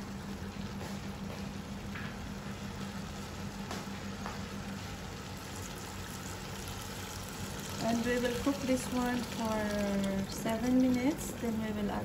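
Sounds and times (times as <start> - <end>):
chicken frying in a pot: 0.0 - 12.0.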